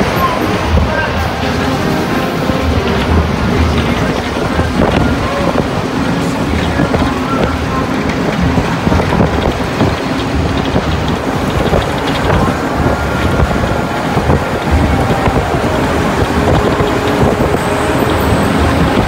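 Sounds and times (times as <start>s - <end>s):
car engine and road noise: 0.0s - 19.0s
wind buffeting microphone: 0.0s - 19.0s.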